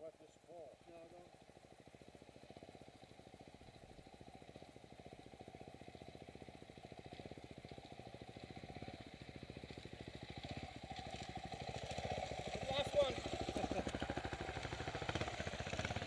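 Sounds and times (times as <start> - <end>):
dirt bike engines approaching: 0.0 - 16.0
motorcycle engine idling: 0.4 - 16.0.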